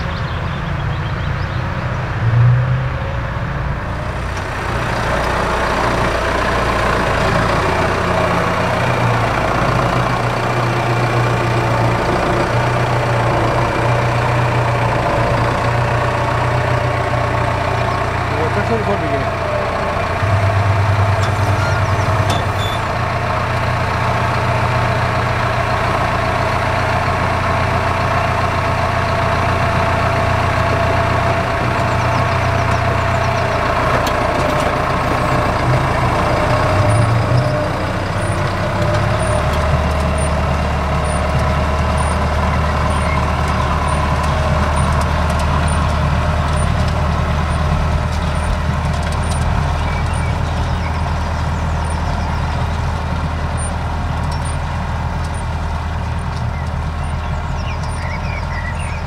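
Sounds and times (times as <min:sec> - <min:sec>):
tractor diesel engine running: 0:00.0 - 0:02.2, 0:02.8 - 0:59.0.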